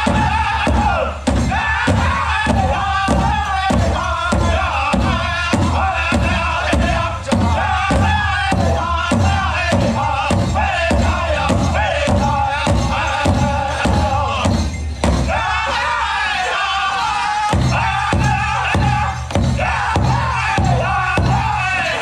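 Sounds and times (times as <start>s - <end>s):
large drum steady beat: 0.0s - 15.6s, 17.5s - 22.0s
high-pitched group singing: 0.0s - 22.0s.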